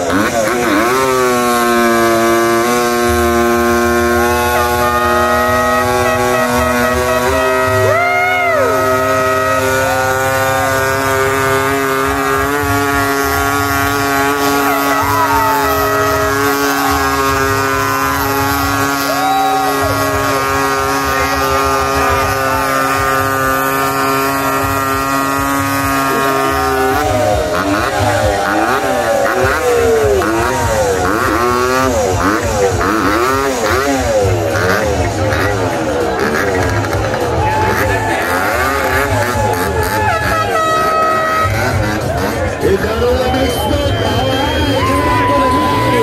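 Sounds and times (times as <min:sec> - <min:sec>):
motorcycle engine revving: 0:00.0 - 0:46.0
rear tyre spinning: 0:00.0 - 0:46.0.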